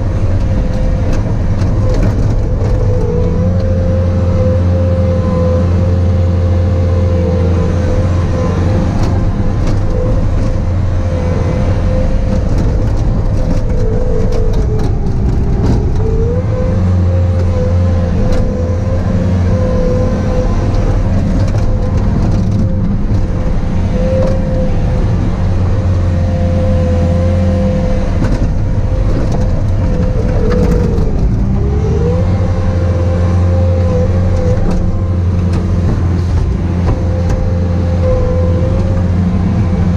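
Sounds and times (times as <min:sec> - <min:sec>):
diesel engine whining under load: 0:00.0 - 0:39.9.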